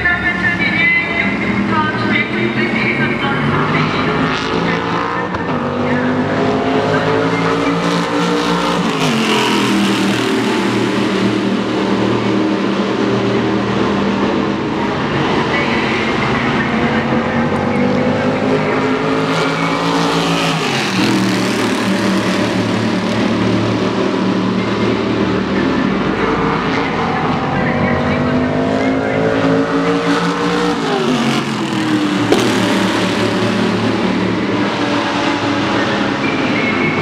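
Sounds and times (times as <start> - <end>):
race car engine: 0.0 - 37.0.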